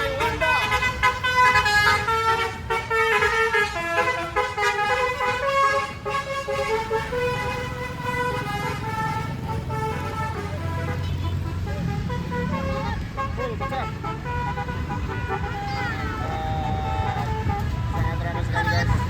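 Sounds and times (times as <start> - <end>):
bus engine running: 0.0 - 19.0
bus horns playing a tune: 0.0 - 19.0.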